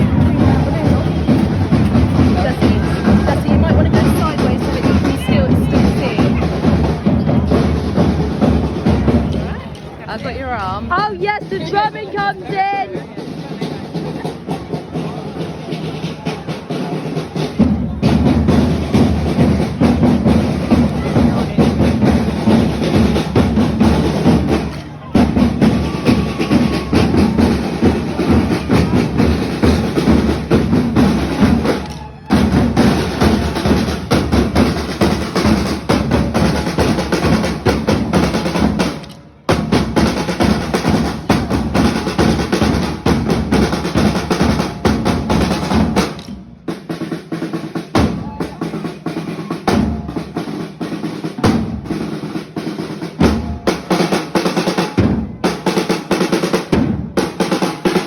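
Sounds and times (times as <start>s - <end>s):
drum band playing: 0.0s - 58.0s.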